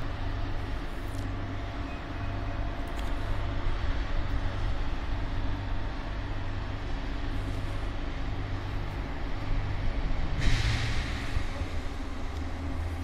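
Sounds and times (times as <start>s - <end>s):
electric locomotive humming: 0.0s - 13.0s.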